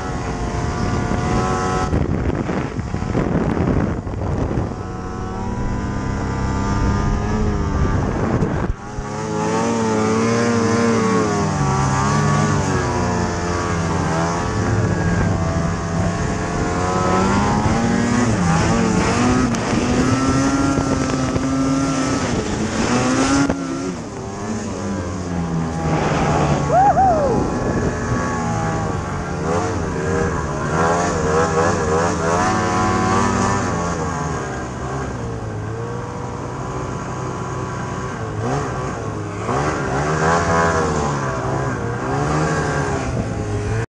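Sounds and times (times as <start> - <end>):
snowmobile engine revving: 0.0 - 43.9.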